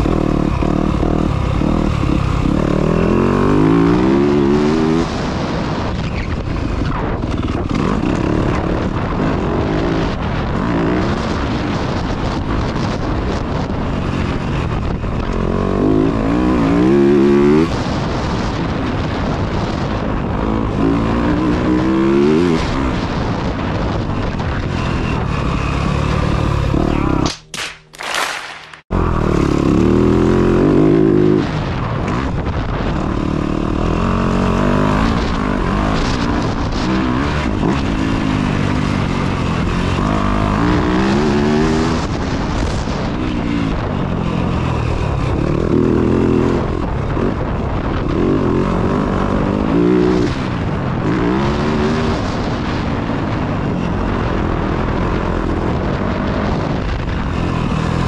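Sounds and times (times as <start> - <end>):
dirt bike engine revving: 0.0 - 27.4, 28.9 - 58.0
steady rushing noise: 0.0 - 58.0.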